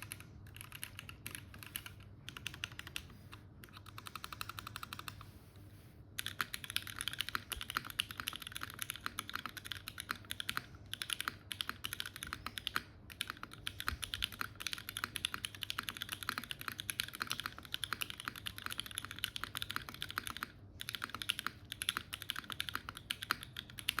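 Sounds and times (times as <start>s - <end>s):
mechanical keyboard clacking: 0.0s - 5.2s, 6.2s - 24.0s.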